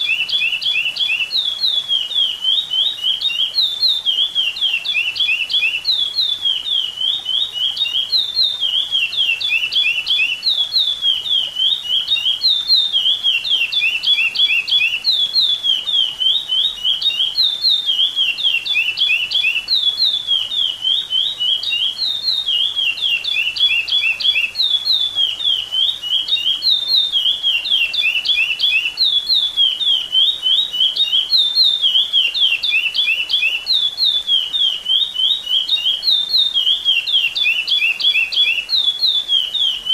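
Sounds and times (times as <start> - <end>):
finch singing whistled notes: 0.0 - 39.9.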